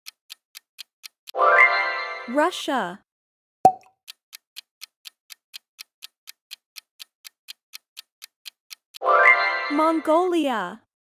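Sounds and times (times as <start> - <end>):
clock ticking: 0.0 - 2.5, 3.9 - 10.9.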